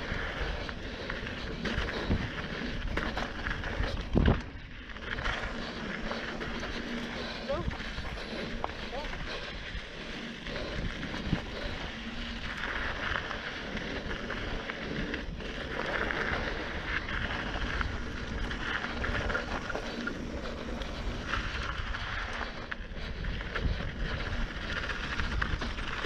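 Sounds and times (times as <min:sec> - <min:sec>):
bike tyres on dirt and gravel: 0:00.0 - 0:26.0
wind rumbling on microphone: 0:00.0 - 0:26.0.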